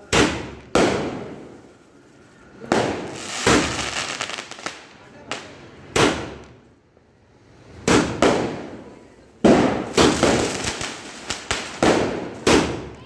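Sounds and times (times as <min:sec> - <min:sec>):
fireworks bangs: 0:00.0 - 0:06.7, 0:07.6 - 0:13.0.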